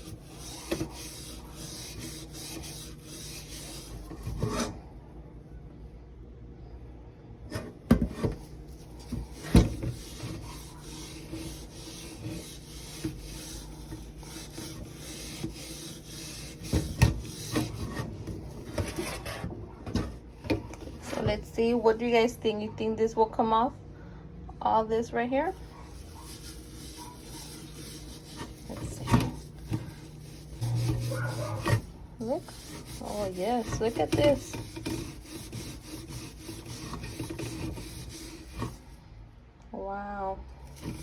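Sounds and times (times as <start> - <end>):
soap pad scrubbing kettle: 0.0 - 4.8, 7.5 - 22.0, 25.5 - 39.0, 40.6 - 41.0.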